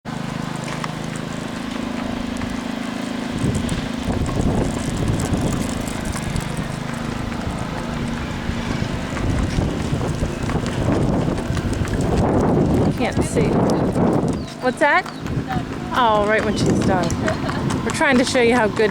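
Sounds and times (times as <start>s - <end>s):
lawn mower engine running: 0.0s - 18.9s
wind buffeting microphone: 0.1s - 18.9s.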